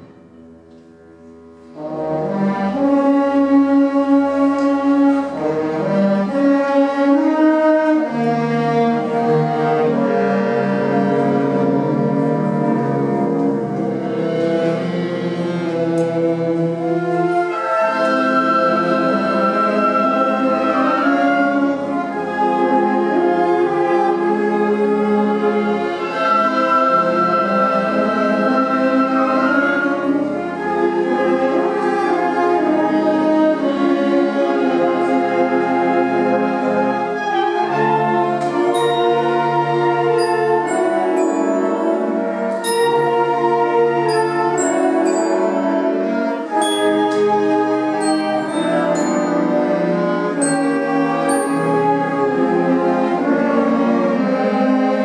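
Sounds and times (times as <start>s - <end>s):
symphonic band playing chords: 0.0s - 55.0s.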